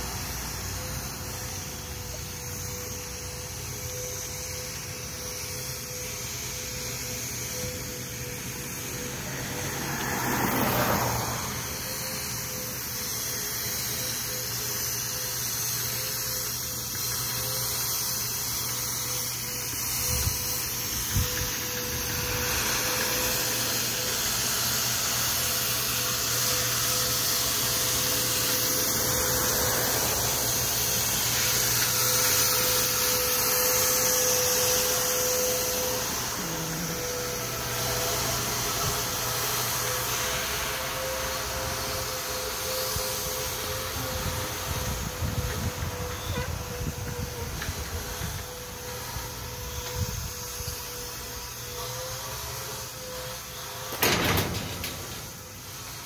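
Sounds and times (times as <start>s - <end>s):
bicycle whirring on concrete: 0.0s - 56.0s
thin steady whine: 0.0s - 56.0s.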